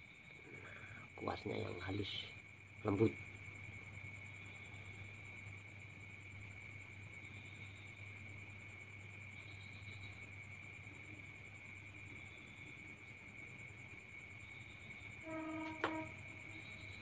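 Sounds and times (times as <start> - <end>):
insect pulsing trill: 0.0 - 17.0.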